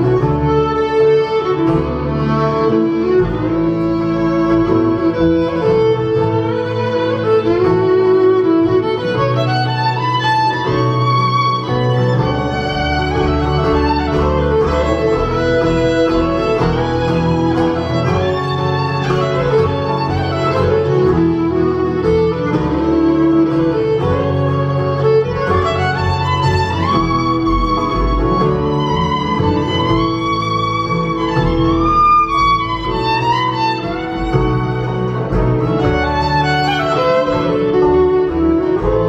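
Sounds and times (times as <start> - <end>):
bluegrass string band playing: 0.0 - 39.0
fiddle: 0.0 - 39.0.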